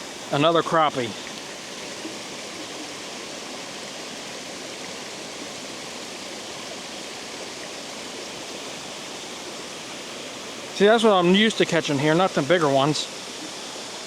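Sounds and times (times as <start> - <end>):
water rushing over spillway: 0.0 - 14.0.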